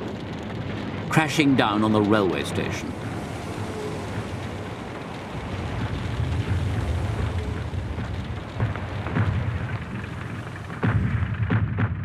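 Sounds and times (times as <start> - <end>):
shell explosions rumbling: 0.0 - 12.0.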